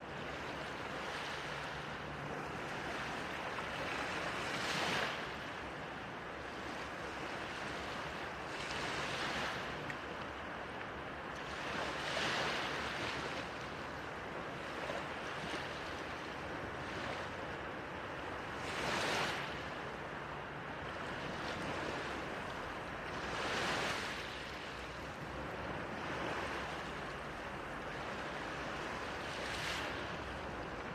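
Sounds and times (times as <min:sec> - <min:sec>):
small waves breaking on shore: 0:00.0 - 0:30.9.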